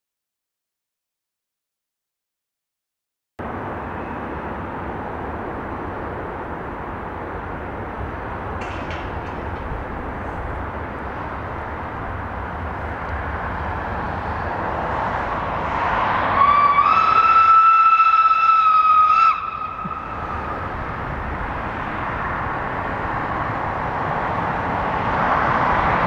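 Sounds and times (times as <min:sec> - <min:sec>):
steam train rumble: 0:03.4 - 0:26.0.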